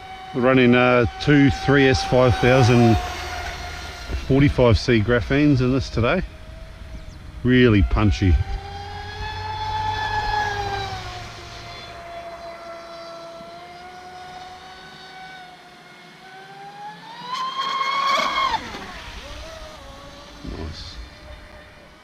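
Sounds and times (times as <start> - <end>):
rc boat motor whining: 0.0 - 22.0.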